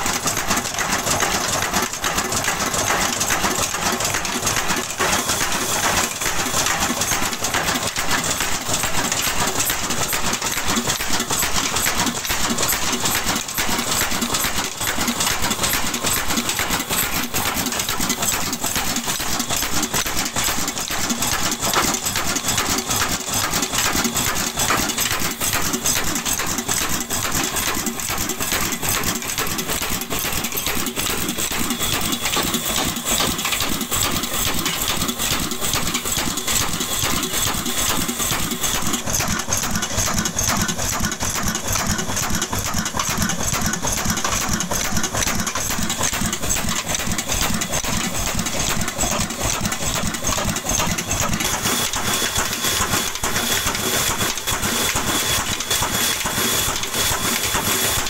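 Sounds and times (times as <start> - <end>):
diesel engine clattering: 0.0 - 58.0.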